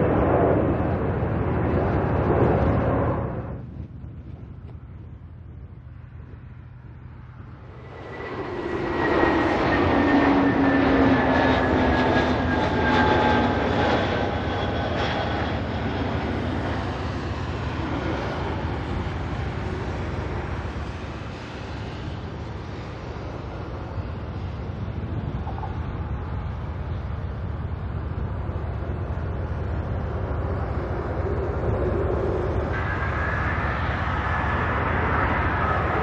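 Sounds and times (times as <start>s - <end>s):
jet airliner passing: 0.0s - 4.0s, 5.7s - 36.0s.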